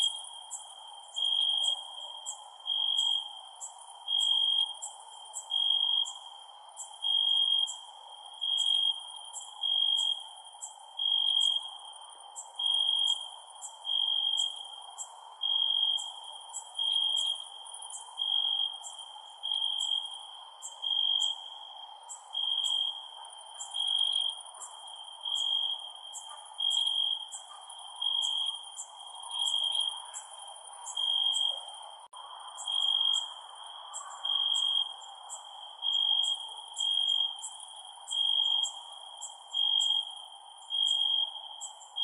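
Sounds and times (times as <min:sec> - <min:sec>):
cricket trill: 0:00.0 - 0:42.0
high-pitched cricket chirps: 0:00.0 - 0:42.0.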